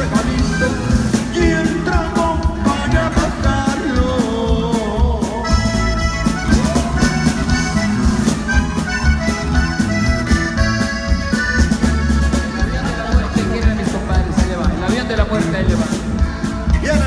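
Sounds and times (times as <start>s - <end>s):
accordion melody: 0.0s - 17.0s
bass line: 0.0s - 17.0s
drums: 0.0s - 17.0s.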